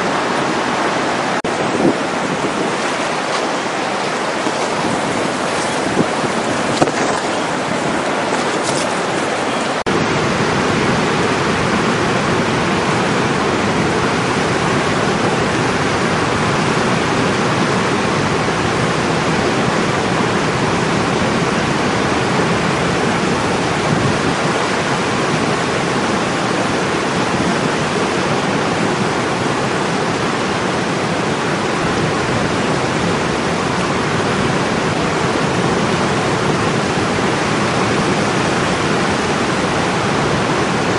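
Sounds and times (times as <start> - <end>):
water rushing over spillway: 0.0 - 40.9.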